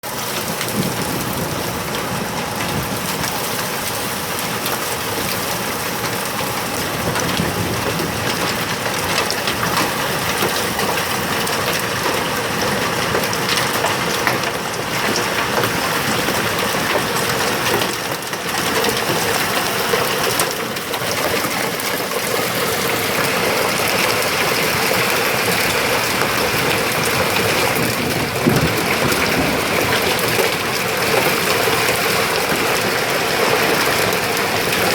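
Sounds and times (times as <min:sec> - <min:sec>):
hail and rain pelting down: 0:00.0 - 0:34.9.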